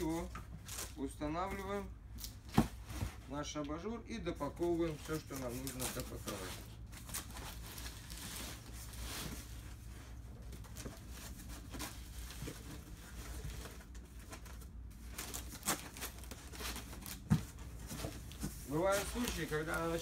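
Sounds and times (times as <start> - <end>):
cardboard rustling and scraping: 2.4 - 3.4, 4.5 - 20.0.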